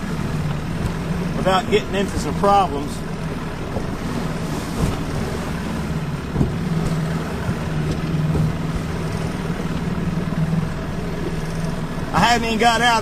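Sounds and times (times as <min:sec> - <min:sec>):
hull hitting waves: 0:00.0 - 0:13.0
outboard motor running: 0:00.0 - 0:13.0.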